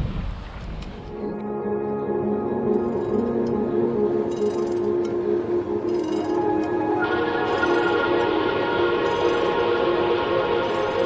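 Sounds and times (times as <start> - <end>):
slow background music: 1.1 - 11.0.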